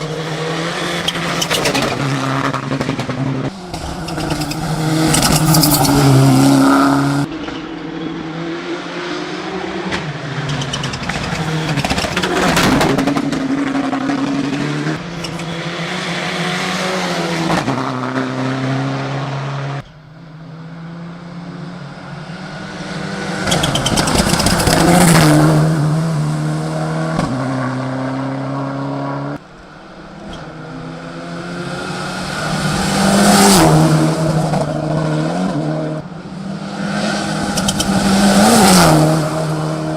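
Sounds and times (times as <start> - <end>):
rally car engine at full throttle: 0.0 - 39.9.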